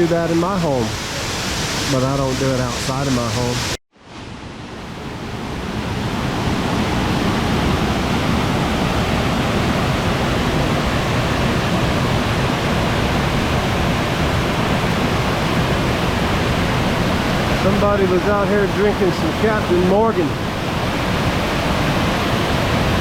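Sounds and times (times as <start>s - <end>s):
waterfall rushing over rocks: 0.0s - 3.8s, 5.3s - 23.0s.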